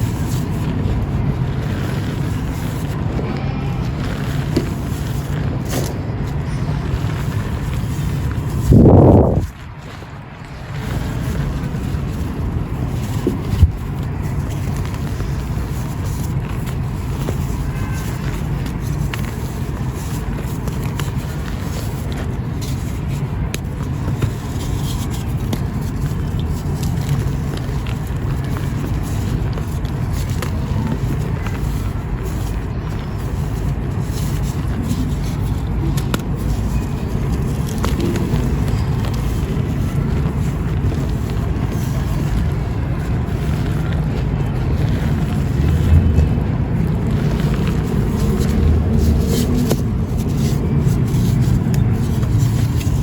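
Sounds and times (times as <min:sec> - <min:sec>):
powder chunks crumbling by hand: 0:00.0 - 0:53.0.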